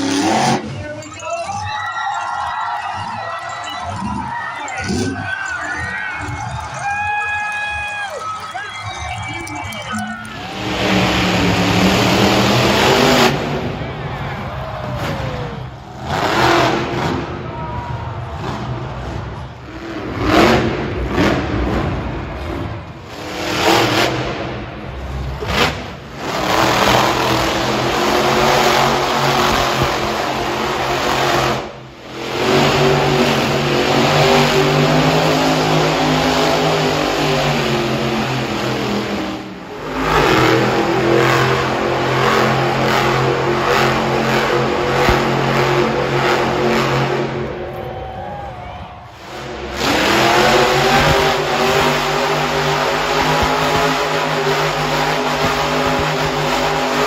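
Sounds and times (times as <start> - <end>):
monster truck engines revving: 0.0 - 57.0.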